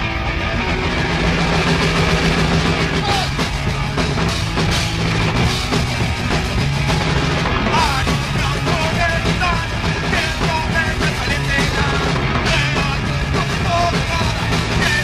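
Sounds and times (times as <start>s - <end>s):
punk rock band playing: 0.0s - 15.0s.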